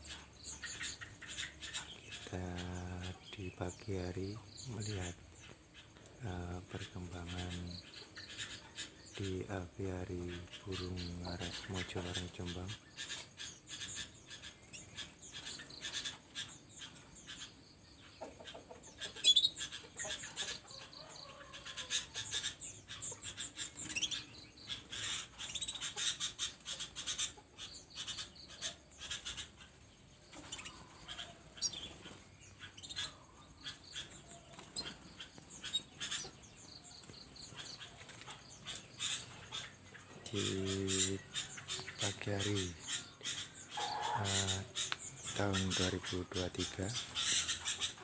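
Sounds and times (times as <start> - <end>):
birds chirping and twittering: 0.0 - 48.0.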